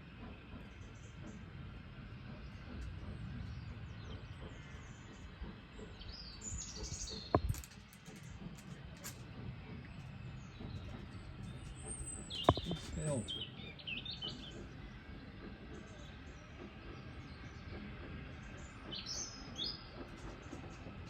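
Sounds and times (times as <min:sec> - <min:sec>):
birds chirping: 0:00.5 - 0:21.0.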